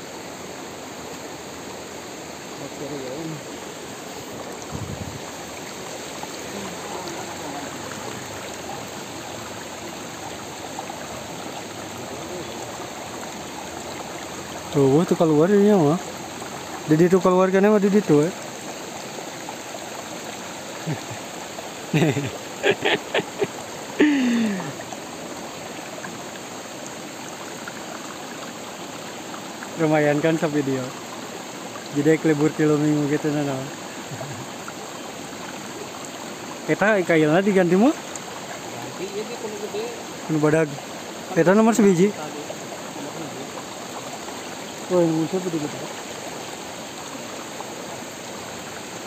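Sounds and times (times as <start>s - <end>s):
stream rushing over stones: 0.0s - 49.0s.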